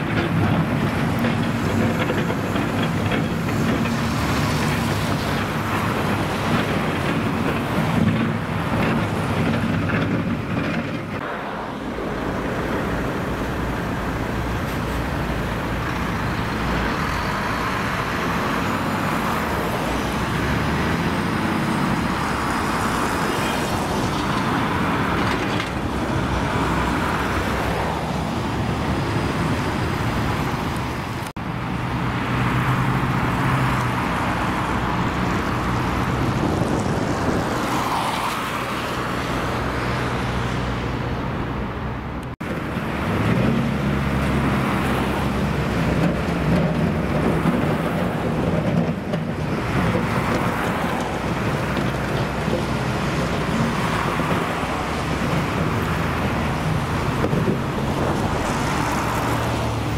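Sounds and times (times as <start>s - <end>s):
rumble of passing cars and trams: 0.0s - 59.9s.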